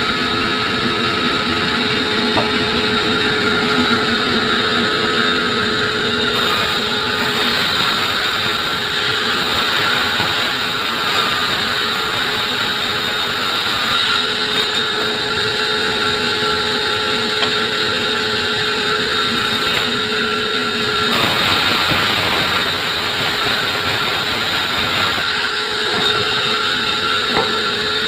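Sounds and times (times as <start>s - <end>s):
saw cutting through wood: 0.0s - 28.0s.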